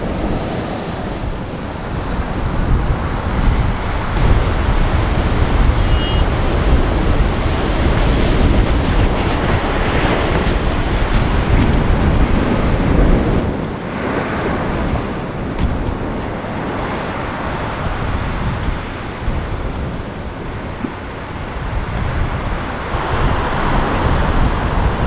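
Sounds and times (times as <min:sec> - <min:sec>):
storm surf washing in: 0:00.0 - 0:25.0
waves breaking against seawall: 0:00.0 - 0:25.0
wind buffeting microphone: 0:00.0 - 0:25.0.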